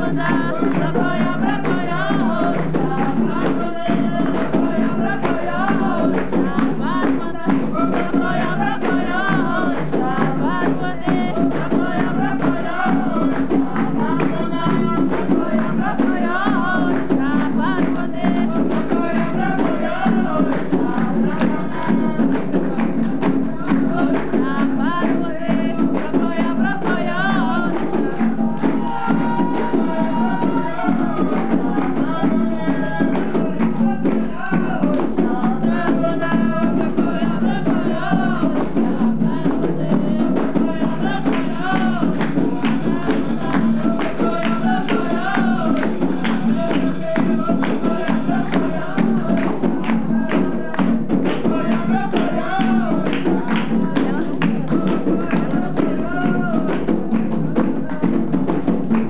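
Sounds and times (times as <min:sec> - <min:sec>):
group singing a chant: 0:00.0 - 0:59.0
shaken percussion: 0:00.0 - 0:59.0.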